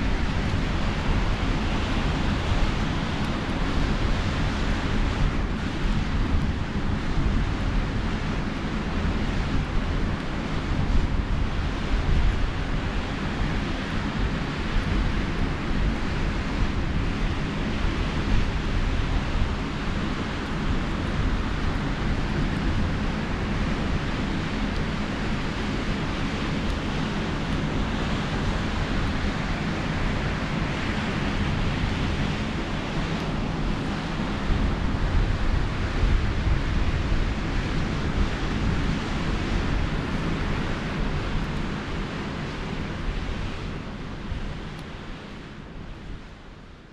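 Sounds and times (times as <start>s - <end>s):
sea waves washing on beach: 0.0s - 46.2s
wind buffeting microphone: 0.0s - 46.3s.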